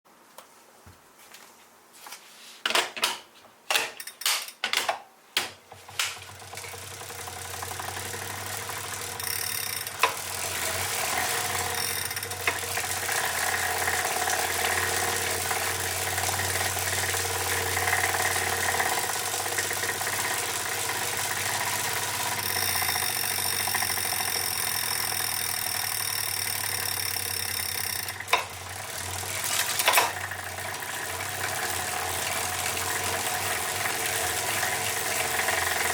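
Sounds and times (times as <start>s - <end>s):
smart trainer whirring: 5.7s - 35.9s.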